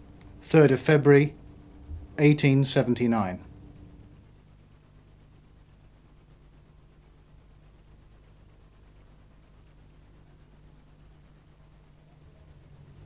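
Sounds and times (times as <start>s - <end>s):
crickets chirping: 0.0s - 13.0s
low steady hum: 0.0s - 13.0s.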